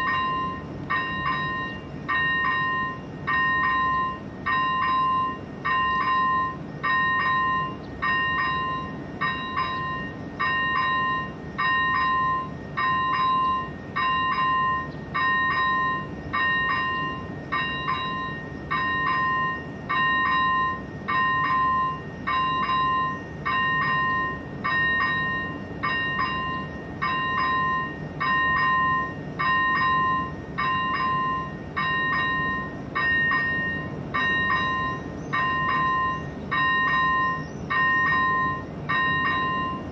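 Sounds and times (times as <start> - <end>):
electronic crossing bell ringing: 0.0 - 39.9.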